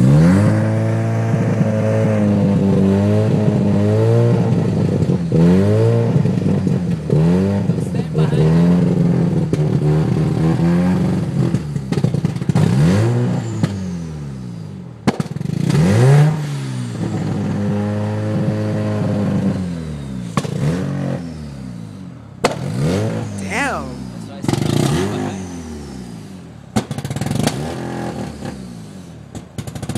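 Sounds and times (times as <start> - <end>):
rotary engine revving and idling: 0.0 - 14.7, 15.4 - 23.4, 24.0 - 29.9.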